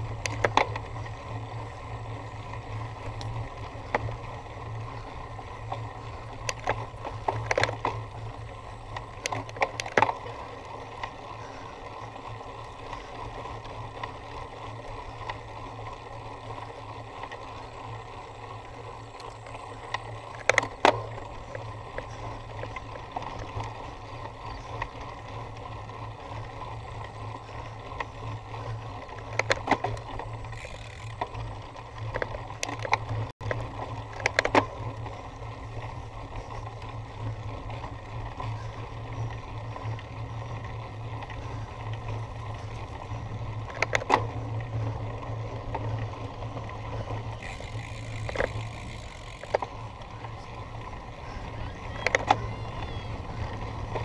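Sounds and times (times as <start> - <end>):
bike rattling and knocking: 0.0 - 54.0
wind and tyre noise: 0.0 - 54.0.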